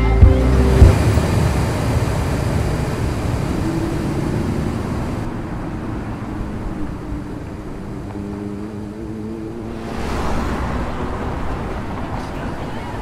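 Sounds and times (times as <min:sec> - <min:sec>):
rushing road traffic: 0:00.0 - 0:13.0.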